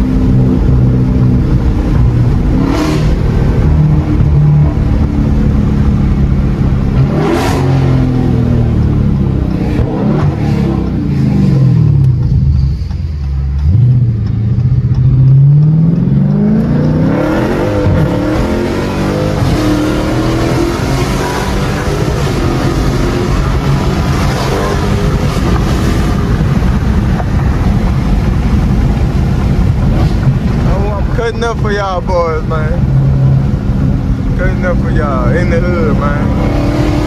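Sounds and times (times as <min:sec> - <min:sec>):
car engine revving: 0:00.0 - 0:37.0
road noise: 0:00.0 - 0:37.0
wind noise: 0:00.0 - 0:37.0.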